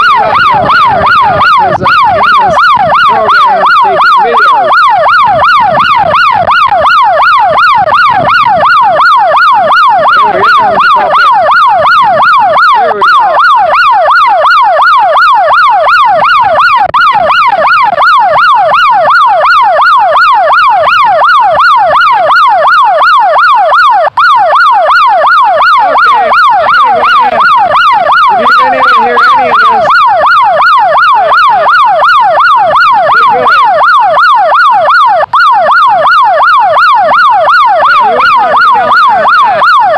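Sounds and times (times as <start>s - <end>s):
electronic siren warble: 0.0s - 39.9s.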